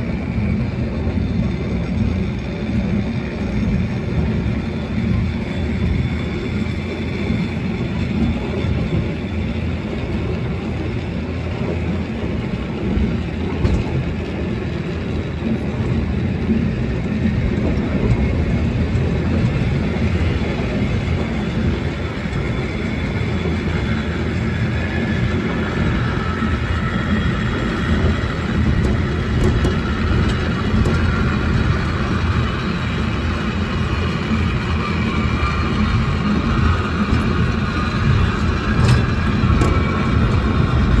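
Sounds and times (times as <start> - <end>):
funicular car rumbling on rails: 0.0 - 41.0.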